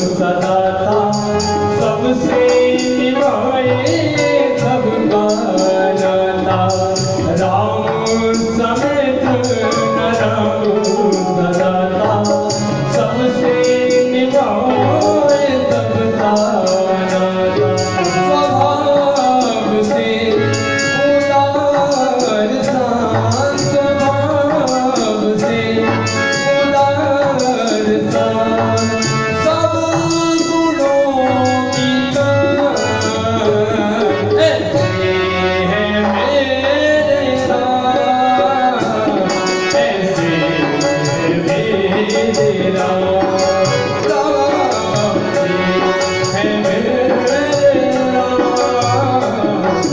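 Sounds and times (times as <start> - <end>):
man singing into microphone: 0.0 - 49.9
steady percussion rhythm: 0.0 - 49.9.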